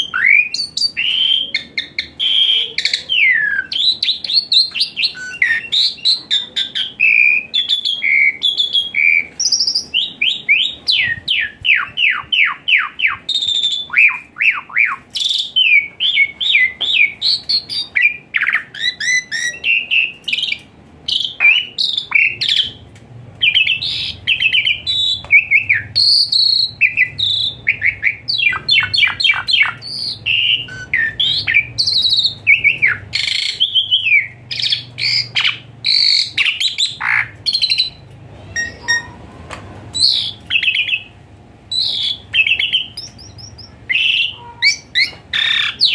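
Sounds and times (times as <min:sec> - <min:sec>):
bird song chattering and whistles: 0:00.0 - 0:22.8, 0:23.4 - 0:39.2, 0:39.9 - 0:45.9.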